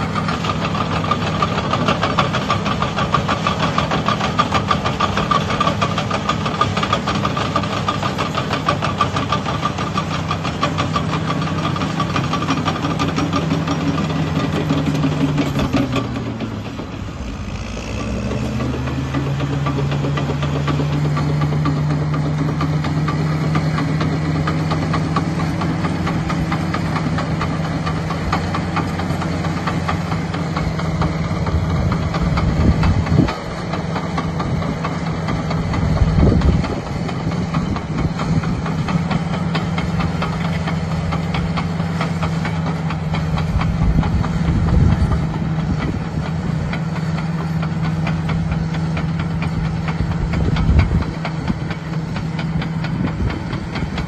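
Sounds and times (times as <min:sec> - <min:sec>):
dozer diesel engine under load: 0:00.0 - 0:54.0
steel tracks clattering: 0:00.0 - 0:54.0.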